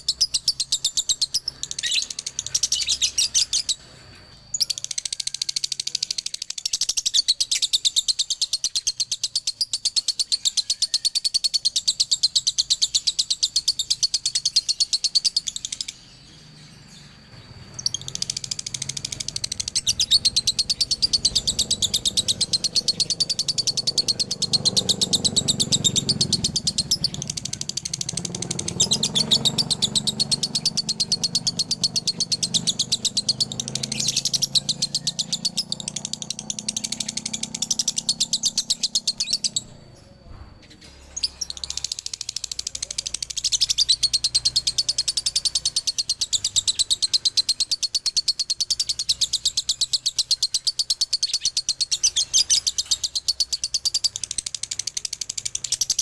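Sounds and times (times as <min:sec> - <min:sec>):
lovebird singing: 0:00.0 - 0:56.0.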